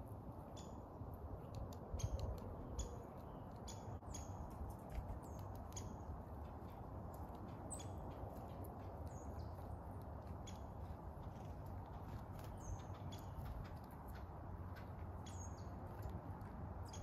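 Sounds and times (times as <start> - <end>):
songbirds chip calls: 0.0 - 17.0
steady low rumble: 0.0 - 17.0.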